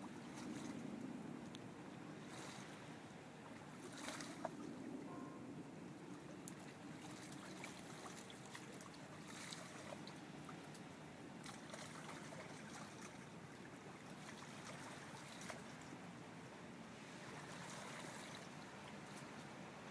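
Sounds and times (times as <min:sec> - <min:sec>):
water lapping and splashing: 0:00.0 - 0:19.9.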